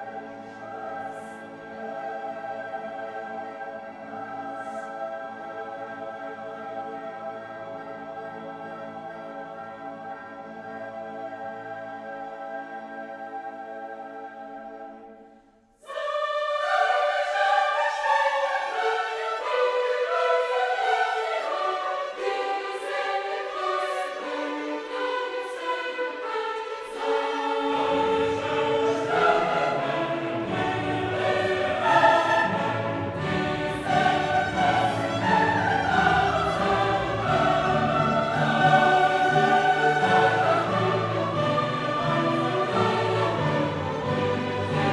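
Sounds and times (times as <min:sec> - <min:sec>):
choir singing with orchestra: 0:00.0 - 0:44.9.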